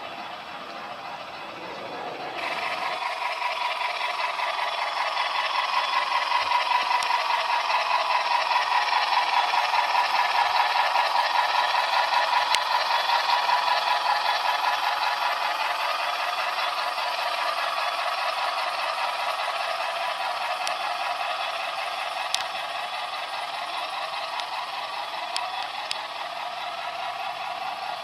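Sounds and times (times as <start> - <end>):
model train rattling on track: 0.0 - 28.0.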